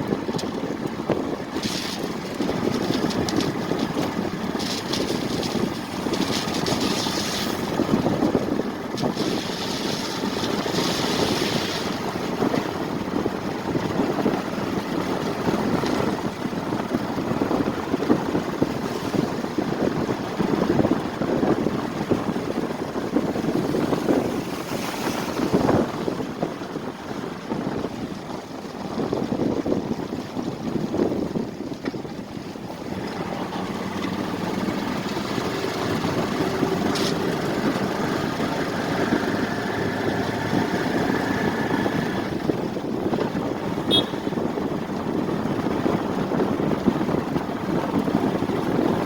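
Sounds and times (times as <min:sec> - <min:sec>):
engine rumbling: 0:00.0 - 0:49.0
wind buffeting microphone: 0:00.0 - 0:49.0.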